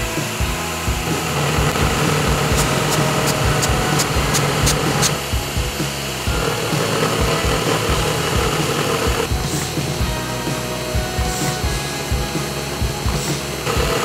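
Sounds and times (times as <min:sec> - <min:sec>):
music with a steady beat: 0:00.0 - 0:14.0.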